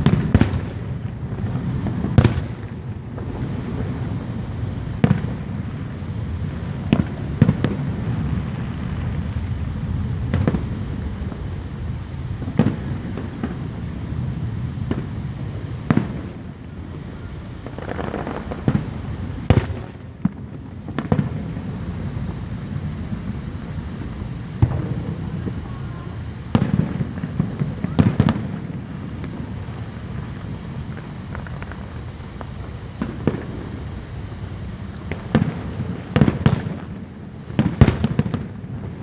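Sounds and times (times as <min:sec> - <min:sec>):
fireworks low rumble: 0:00.0 - 0:39.0.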